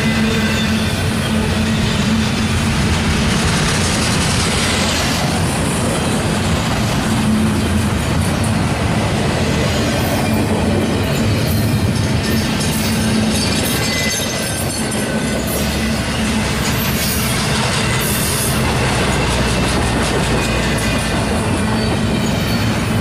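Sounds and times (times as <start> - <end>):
freight train wheels rumbling on rail: 0.0 - 23.0
sharp clicks from train wheels: 0.0 - 23.0.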